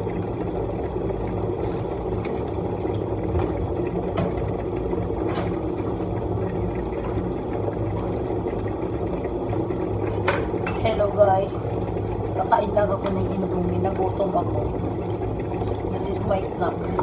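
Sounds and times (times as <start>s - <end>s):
mechanical motor hum: 0.0s - 17.0s.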